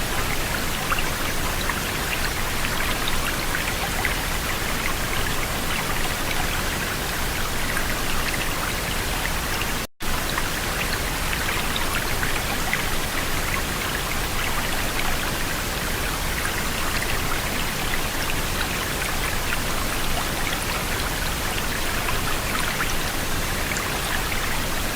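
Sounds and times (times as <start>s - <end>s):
dense water patter: 0.0s - 24.9s.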